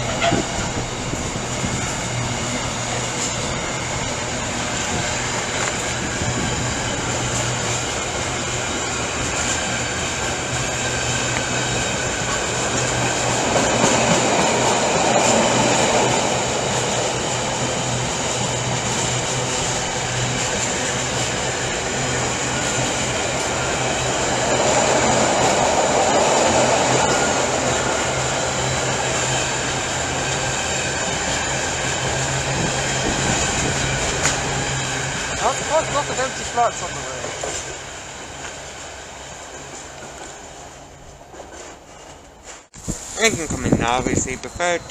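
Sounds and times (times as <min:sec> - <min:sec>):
freight train wagons rolling: 0:00.0 - 0:44.9.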